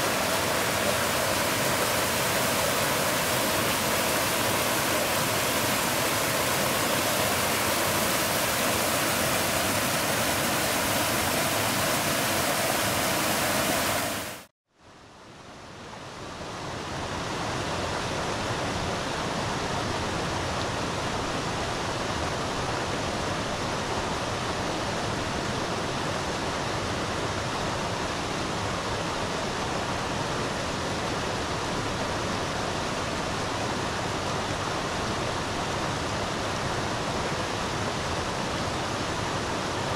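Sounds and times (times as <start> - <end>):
flowing river water: 0.0 - 14.5, 15.4 - 39.9.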